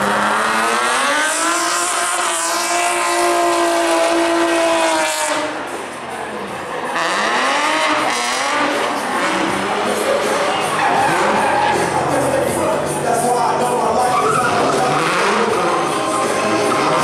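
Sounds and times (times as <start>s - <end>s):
car engine revving hard: 0.0s - 12.7s, 13.8s - 17.0s.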